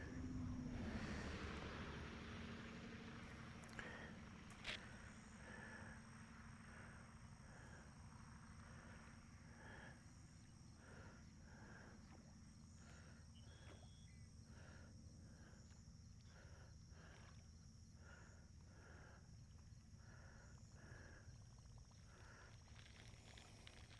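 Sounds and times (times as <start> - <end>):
high insect drone: 0.0 - 23.9.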